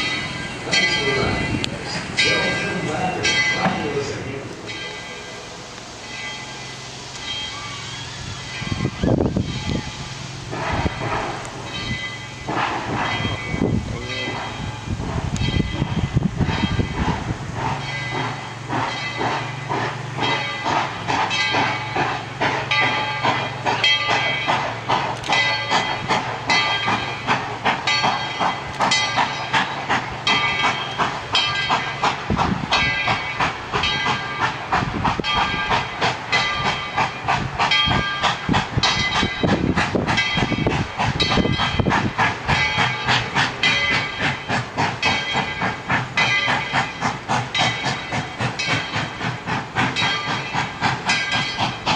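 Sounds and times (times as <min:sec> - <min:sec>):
hissing steam: 0:00.0 - 0:51.9
steam locomotive exhaust beats: 0:00.0 - 0:51.9.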